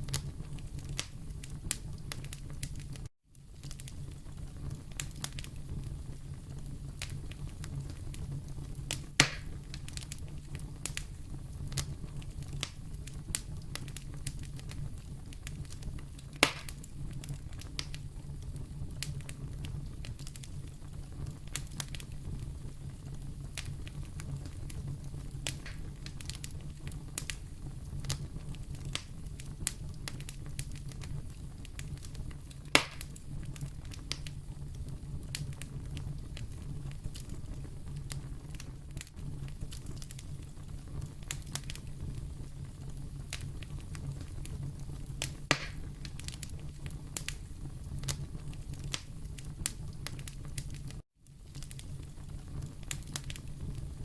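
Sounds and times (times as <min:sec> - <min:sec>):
fire crackles and pops: 0:00.0 - 0:54.0
wood fire burning: 0:00.0 - 0:54.0.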